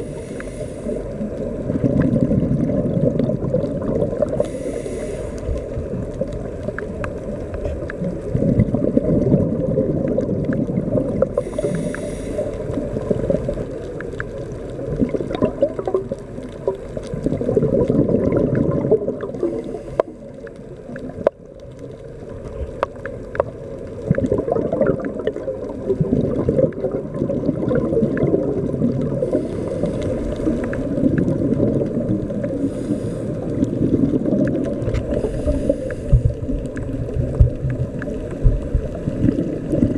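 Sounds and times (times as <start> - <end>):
gurgle of exhaled bubbles: 0.0 - 39.9
muffled underwater rumble: 0.0 - 39.9.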